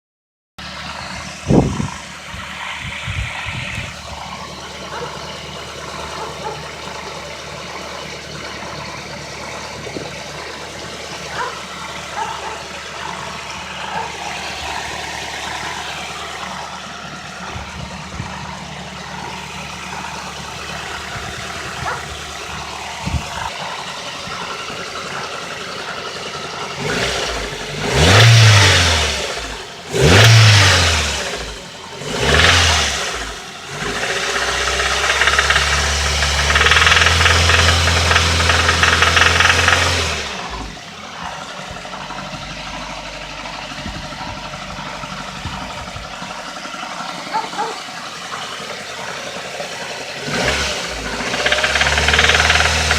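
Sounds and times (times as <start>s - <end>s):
knocking car engine revving: 0.6s - 52.9s.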